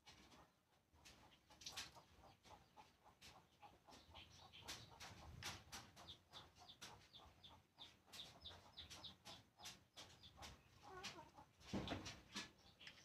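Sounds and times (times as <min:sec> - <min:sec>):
bird clucks: 0:00.1 - 0:13.0.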